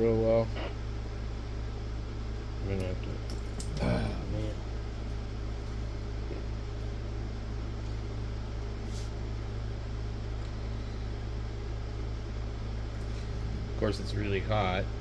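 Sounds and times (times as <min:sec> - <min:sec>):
electrical hum with fan hiss: 0:00.0 - 0:15.0.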